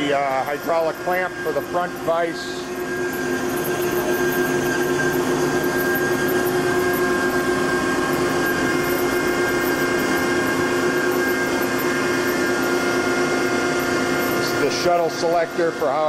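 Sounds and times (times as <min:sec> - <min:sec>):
band saw cutting metal: 0:00.0 - 0:16.0.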